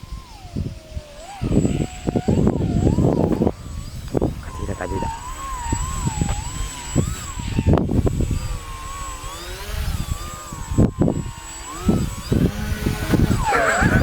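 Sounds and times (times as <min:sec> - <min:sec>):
model plane motor whine: 0:00.0 - 0:14.0
wind buffeting microphone: 0:00.0 - 0:14.0.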